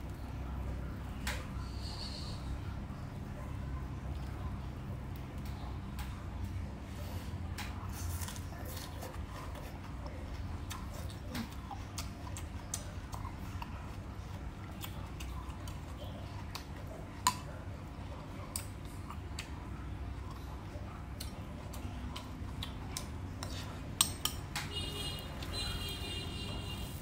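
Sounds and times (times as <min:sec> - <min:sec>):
chewing crisp greens: 0:00.0 - 0:27.0.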